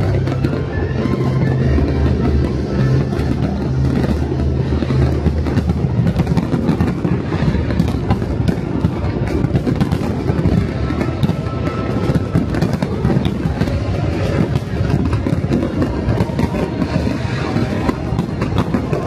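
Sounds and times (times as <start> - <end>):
fireworks crackling and popping: 0.0 - 19.0
heavy low rumble: 0.0 - 19.0
music playing: 0.0 - 19.0.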